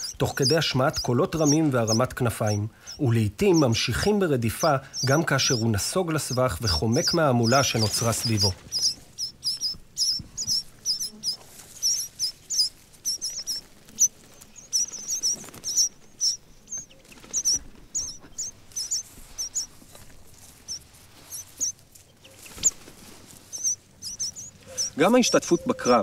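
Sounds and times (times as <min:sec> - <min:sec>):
birds chirping loudly: 0:00.0 - 0:26.0.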